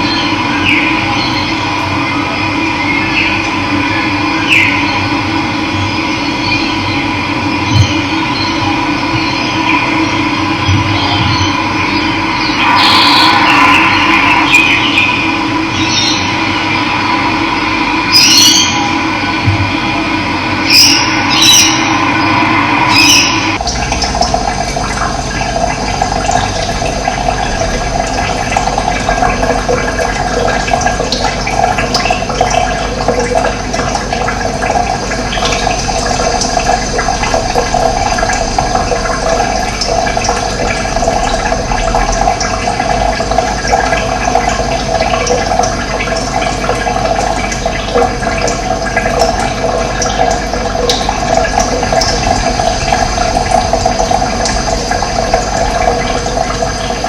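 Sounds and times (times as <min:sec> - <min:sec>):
running water flowing: 0:00.0 - 0:57.0.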